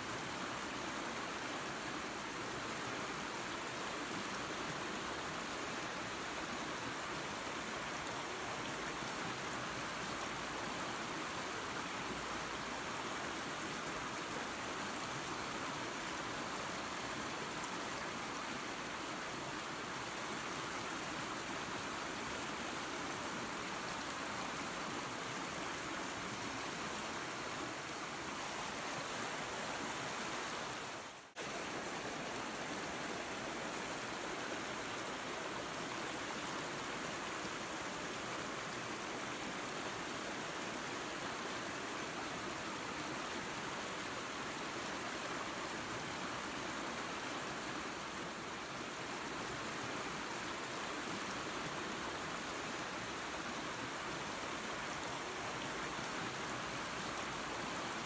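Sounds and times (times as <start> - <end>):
waterfall and creek rushing: 0.0 - 58.0.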